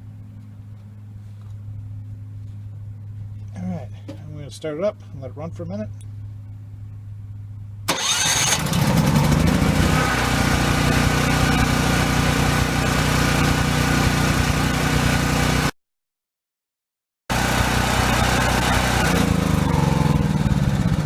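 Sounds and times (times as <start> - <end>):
generator starting and running: 0.0 - 15.7, 17.3 - 21.0.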